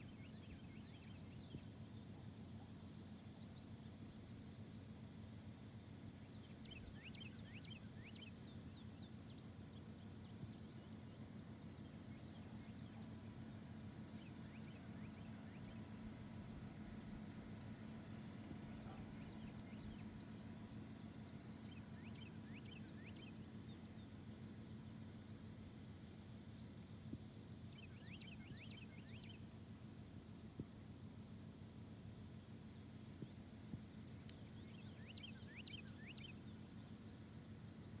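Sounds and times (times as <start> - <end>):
insects trilling: 0.0 - 38.0.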